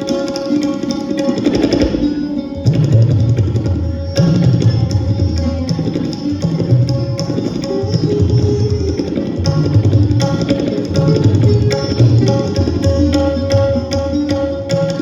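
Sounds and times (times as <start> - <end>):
tabla playing fast pattern: 0.0 - 15.0.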